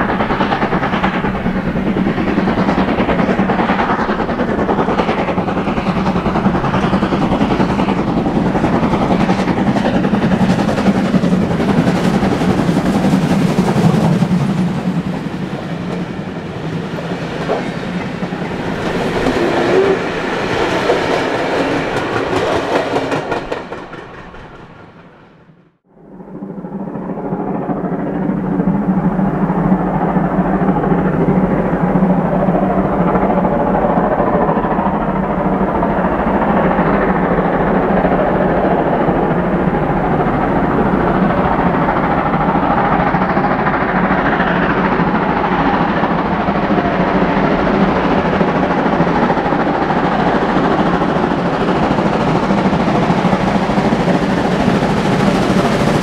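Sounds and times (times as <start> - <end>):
train rolling past: 0.0 - 56.0.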